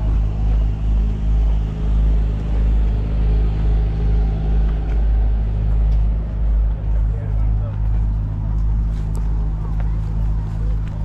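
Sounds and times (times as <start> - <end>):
car engine drone inside cabin: 0.0 - 11.0.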